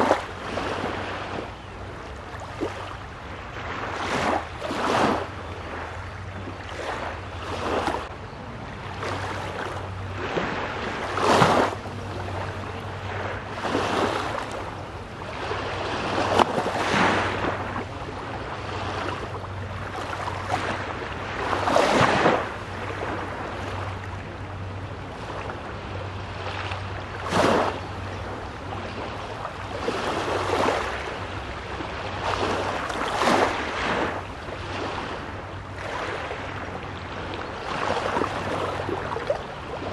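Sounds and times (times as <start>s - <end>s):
steady low hum: 0.0s - 39.9s
waves washing onto shore: 0.0s - 39.9s.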